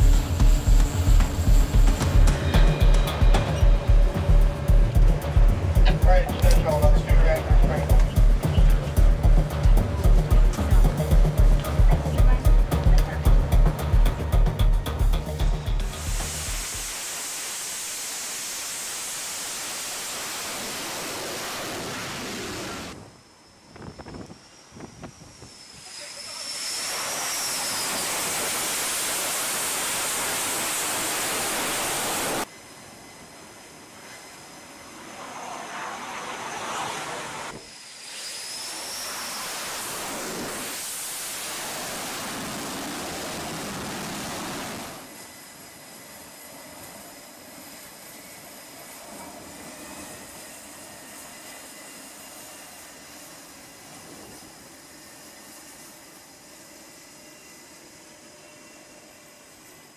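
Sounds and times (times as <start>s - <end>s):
jet engines roaring with whine: 0.0s - 59.9s.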